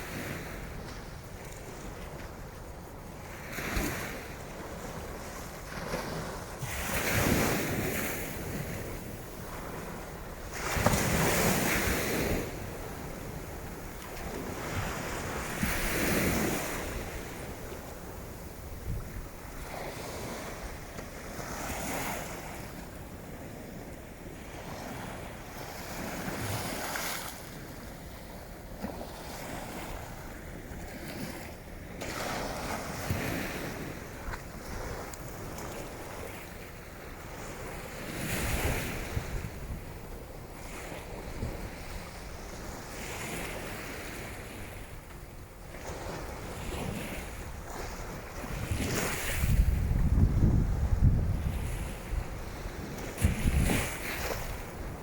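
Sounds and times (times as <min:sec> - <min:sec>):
wind buffeting microphone: 0:00.0 - 0:28.0, 0:37.2 - 0:45.1, 0:45.8 - 0:55.0
waves washing onto beach: 0:00.0 - 0:55.0.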